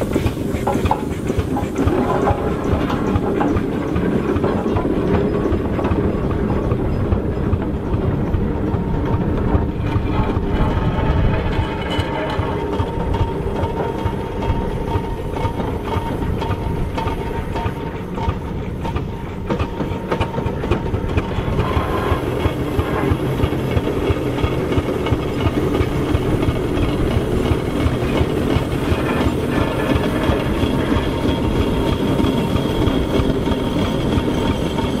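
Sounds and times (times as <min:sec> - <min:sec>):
gearing clatter: 0:00.0 - 0:35.0
steam engine beat: 0:00.0 - 0:35.0.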